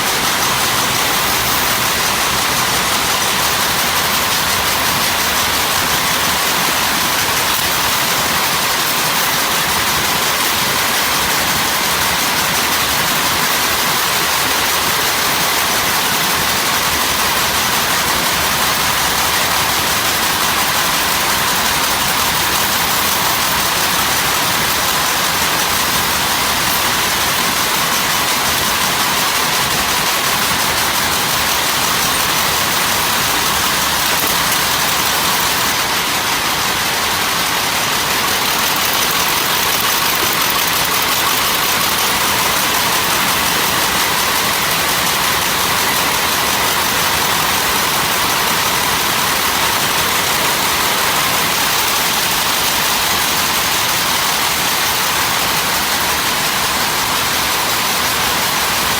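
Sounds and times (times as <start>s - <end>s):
hissing machine noise: 0.0s - 58.9s.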